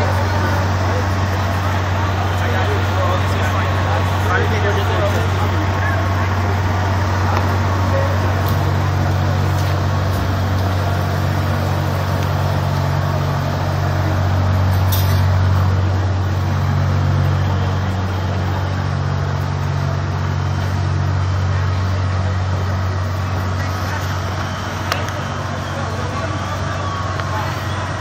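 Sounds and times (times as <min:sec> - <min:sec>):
fire truck diesel engines droning: 0:00.0 - 0:28.0.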